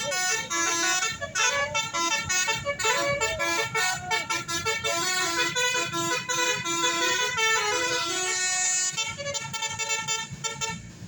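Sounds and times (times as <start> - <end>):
bus horn playing tune: 0.0 - 11.0.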